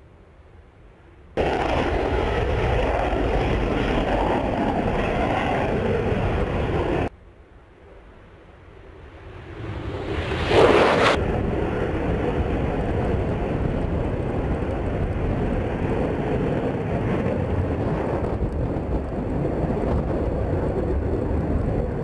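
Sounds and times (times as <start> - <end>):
fighter jet flying low: 1.4 - 7.1, 7.8 - 22.0.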